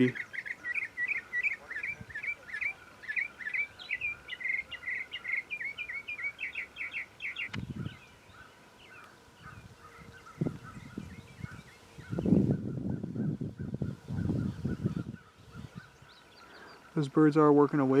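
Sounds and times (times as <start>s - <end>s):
songbird chirping: 0.0s - 18.0s.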